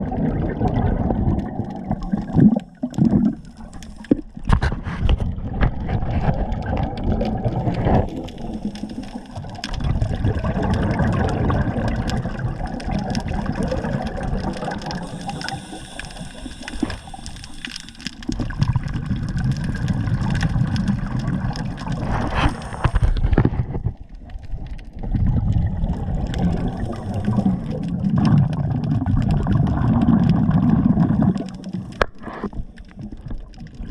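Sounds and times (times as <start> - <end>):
water sloshing and gurgling: 0.0 - 33.9.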